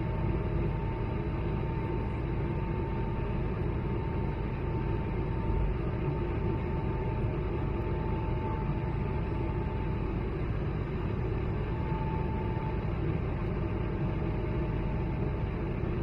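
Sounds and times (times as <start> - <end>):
aircraft cabin engine roar: 0.0 - 16.0
thin steady whine: 0.0 - 16.0.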